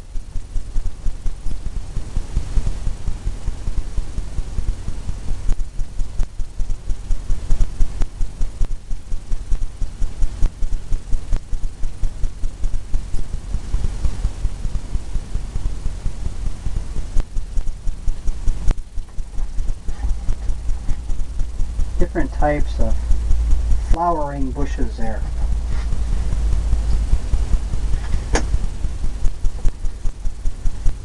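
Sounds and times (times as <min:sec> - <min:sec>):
rhythmic dull thumping: 0:00.0 - 0:31.0.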